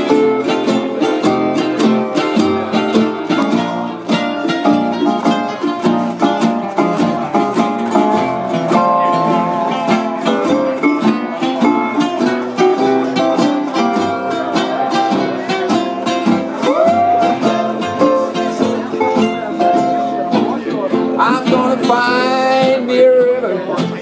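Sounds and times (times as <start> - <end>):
plucked string lead line: 0.0 - 24.0
strummed guitars: 0.0 - 24.0.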